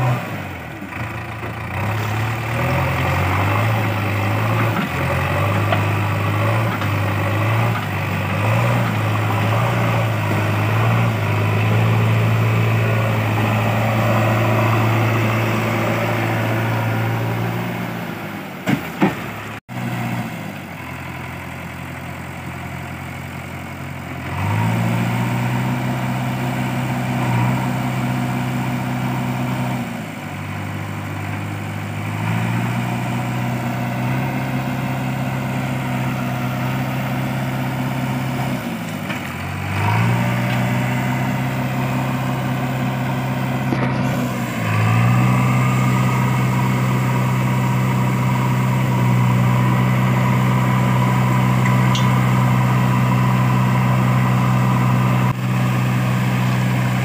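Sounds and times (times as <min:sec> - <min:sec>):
diesel engine revving under load: 0:00.0 - 0:57.0.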